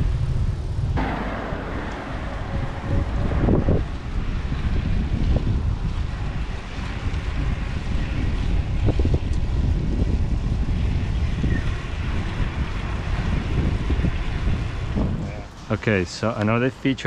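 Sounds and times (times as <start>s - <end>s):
wind rumbling on microphone: 0.0s - 16.4s
bicycle rolling: 0.0s - 17.0s.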